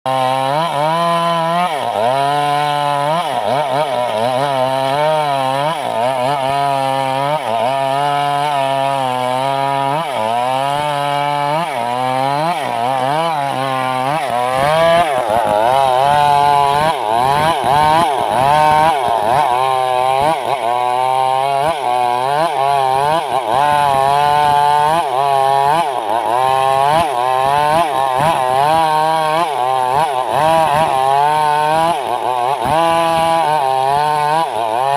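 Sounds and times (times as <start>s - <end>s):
chainsaw ripping wood: 0.1s - 34.9s.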